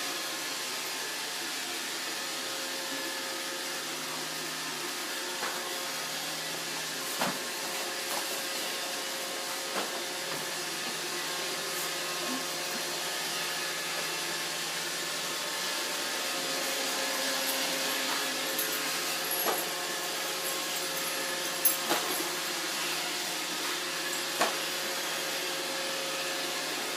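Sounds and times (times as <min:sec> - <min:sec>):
robot vacuum humming and whirring: 0:00.0 - 0:26.9.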